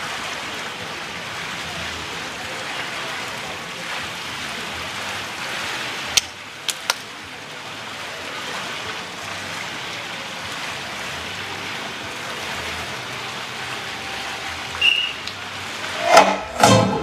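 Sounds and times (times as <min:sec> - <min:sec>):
outdoor poolside ambience hiss: 0:00.0 - 0:17.0.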